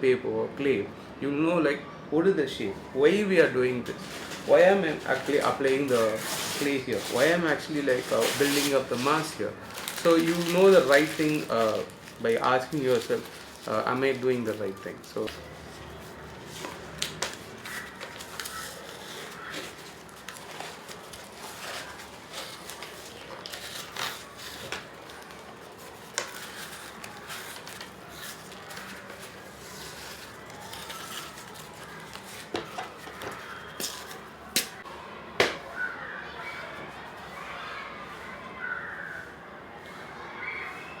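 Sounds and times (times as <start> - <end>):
hands working paper and clay: 2.6 - 35.6.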